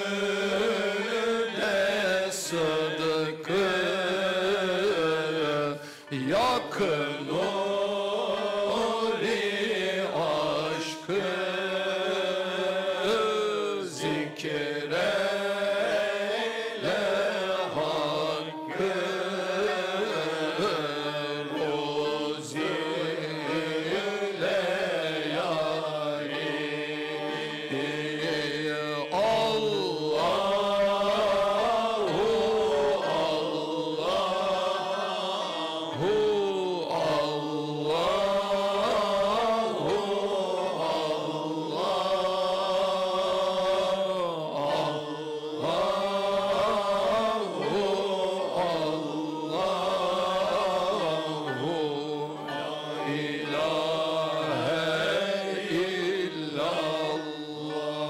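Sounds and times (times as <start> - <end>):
male chorus chanting a hymn: 0.0 - 58.0.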